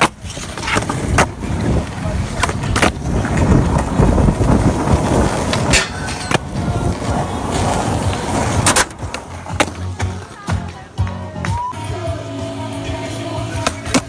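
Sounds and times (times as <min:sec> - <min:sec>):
skateboard clacking on ground: 0:00.0 - 0:11.7
skateboard wheels rolling on concrete: 0:00.0 - 0:14.0.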